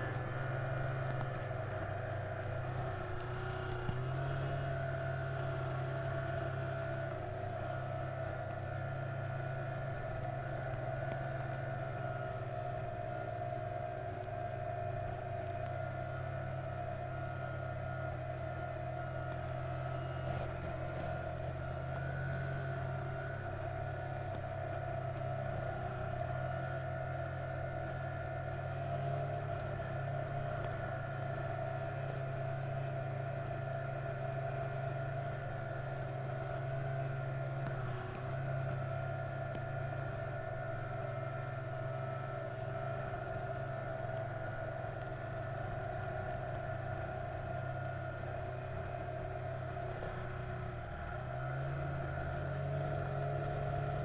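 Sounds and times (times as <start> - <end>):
road and wind noise: 0.0 - 54.0
vehicle engine cruising: 0.0 - 54.0.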